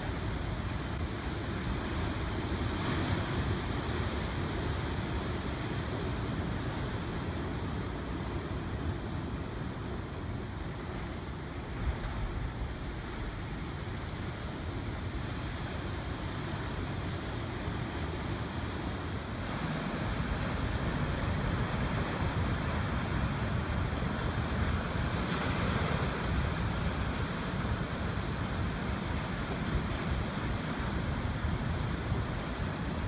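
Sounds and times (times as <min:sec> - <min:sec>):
wind rumbling on microphone: 0:00.0 - 0:33.0.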